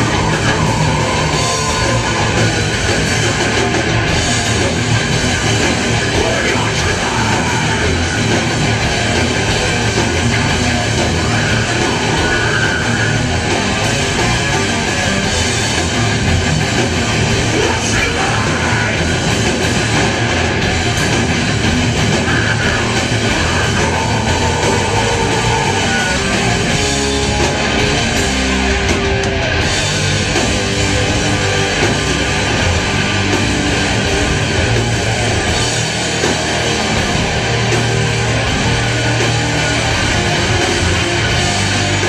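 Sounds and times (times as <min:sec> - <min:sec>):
heavy metal band playing: 0:00.0 - 0:42.0.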